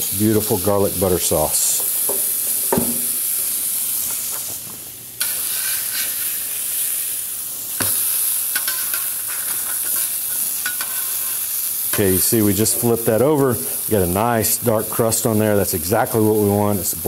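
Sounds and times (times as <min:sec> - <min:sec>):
seafood sizzling on a griddle: 0:00.0 - 0:17.0.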